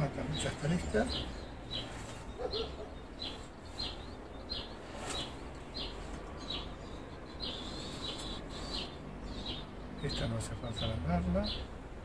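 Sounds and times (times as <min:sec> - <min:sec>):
small bird chirping: 0:00.2 - 0:11.8.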